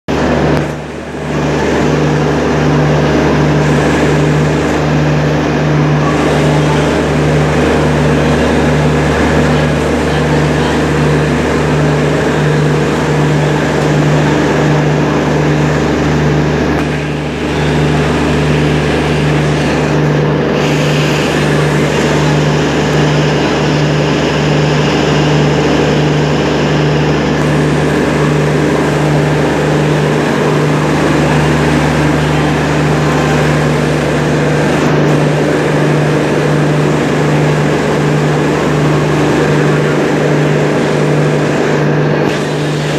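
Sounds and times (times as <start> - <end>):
diesel generators droning: 0.0 - 42.9.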